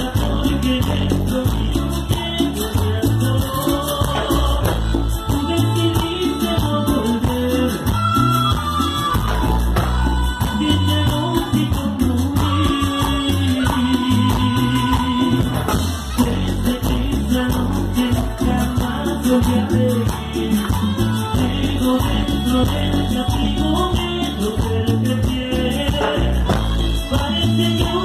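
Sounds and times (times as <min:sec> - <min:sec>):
live latin dance band: 0:00.0 - 0:28.0
man singing into microphone: 0:00.0 - 0:28.0.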